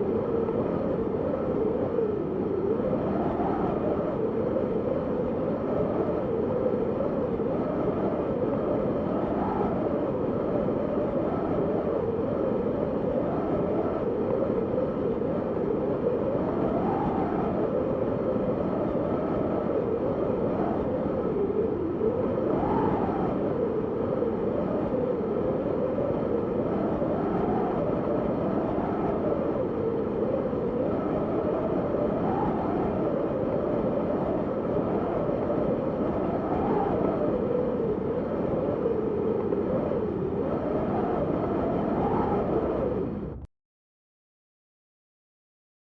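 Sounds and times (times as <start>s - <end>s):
wind blowing with whistling tone: 0.0s - 43.5s.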